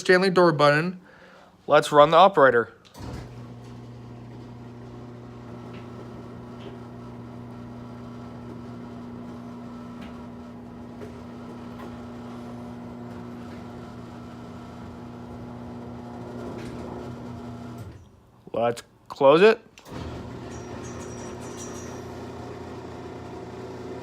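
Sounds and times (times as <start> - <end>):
garage door opener motor hum: 2.9 - 18.2, 19.8 - 24.0.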